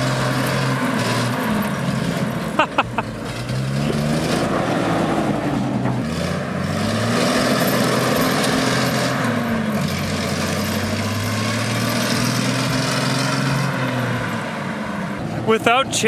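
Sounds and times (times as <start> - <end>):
chained tyres sliding in snow: 0.0 - 15.6
truck engine revving: 0.0 - 16.0.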